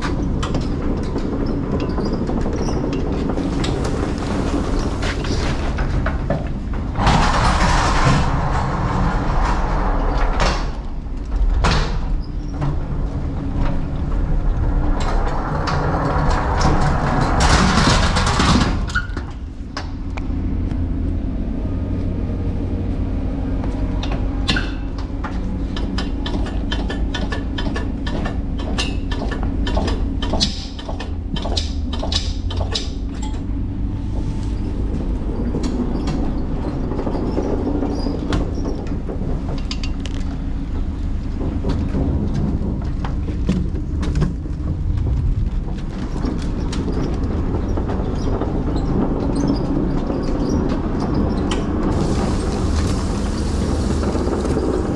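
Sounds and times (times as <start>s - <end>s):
pallet jack rattling and clattering: 0.0s - 20.0s, 24.1s - 33.8s, 34.7s - 54.9s
steady low rumble: 0.0s - 27.2s, 31.0s - 54.9s.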